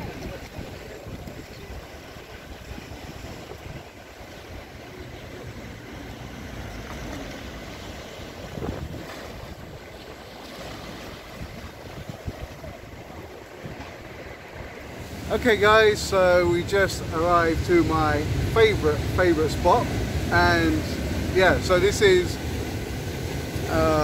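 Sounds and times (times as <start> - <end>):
wind buffeting microphone: 0.0 - 5.6, 7.6 - 24.0
rough sea waves washing: 0.0 - 24.0.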